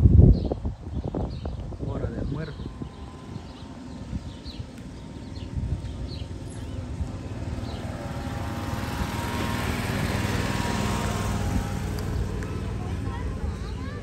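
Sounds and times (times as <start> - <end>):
utility vehicle driving past: 2.5 - 14.0.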